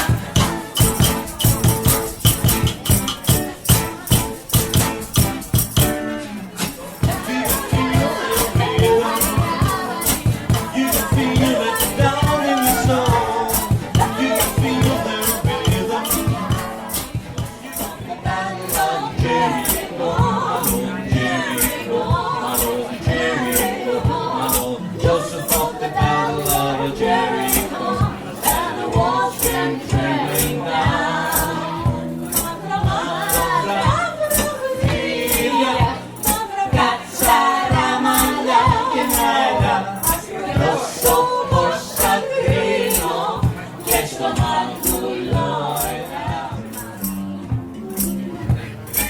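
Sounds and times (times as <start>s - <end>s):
guitar and bass: 0.0s - 49.0s
jingling hand percussion: 0.0s - 49.0s
shaker keeping a beat: 0.0s - 49.0s
vocal trio singing in harmony: 0.0s - 49.0s.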